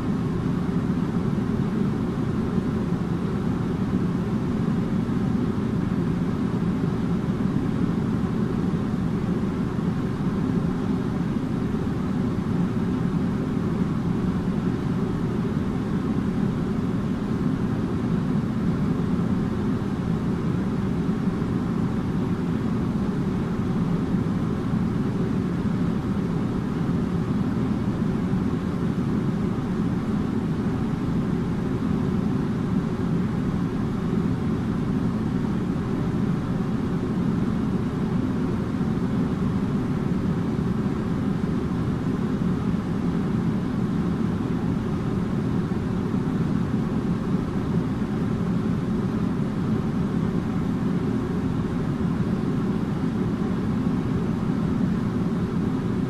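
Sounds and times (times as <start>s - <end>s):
air conditioner running: 0.0s - 56.0s
faint steady hum: 0.0s - 56.0s.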